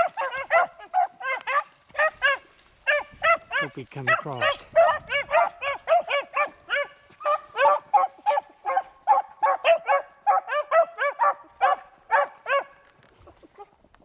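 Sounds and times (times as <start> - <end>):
hounds baying: 0.0 - 13.8.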